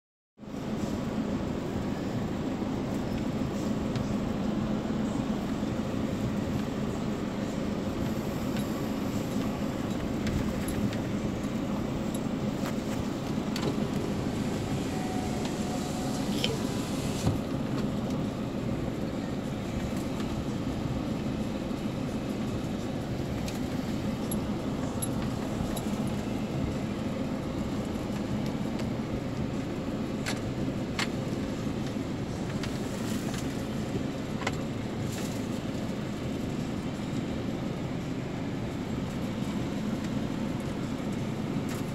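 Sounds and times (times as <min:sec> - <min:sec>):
car engine and road rumble: 0:00.4 - 0:41.9.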